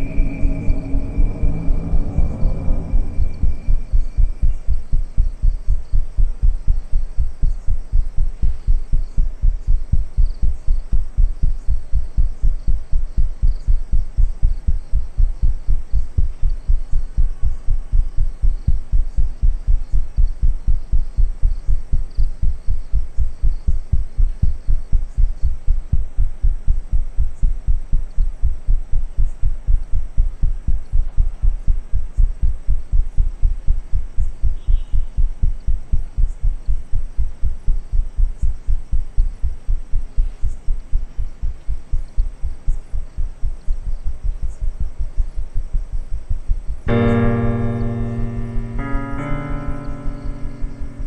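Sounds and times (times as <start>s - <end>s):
heartbeat low thumps: 0.0s - 51.0s.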